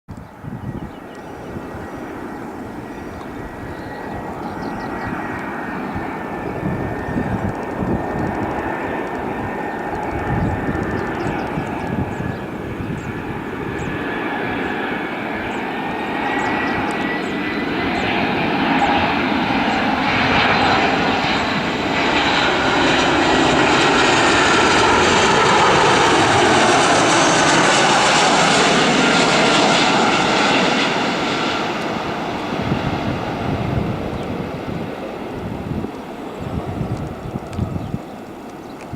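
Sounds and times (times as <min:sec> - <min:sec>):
high engine whine: 0:00.1 - 0:38.9
jet airliner passing: 0:00.1 - 0:38.9.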